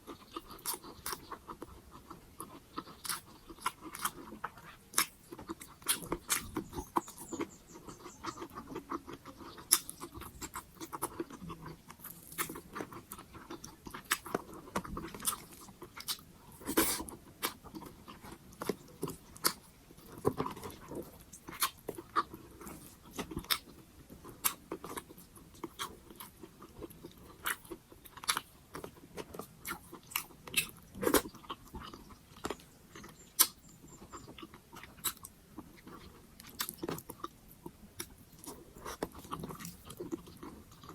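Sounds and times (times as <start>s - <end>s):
chewing with wet mouth smacks: 0.0s - 40.9s.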